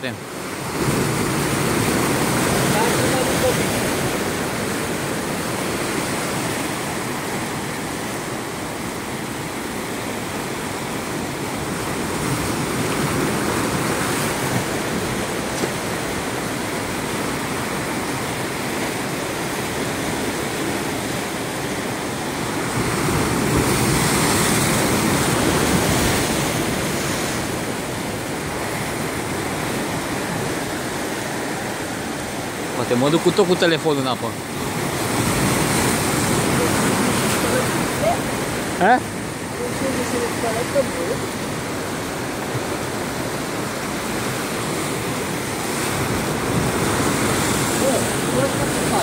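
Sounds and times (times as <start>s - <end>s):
ocean waves breaking on rocks: 0.0s - 49.0s.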